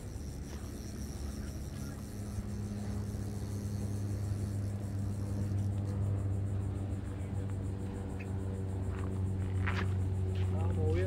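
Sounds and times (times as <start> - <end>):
small aircraft engine drone: 0.0 - 11.0.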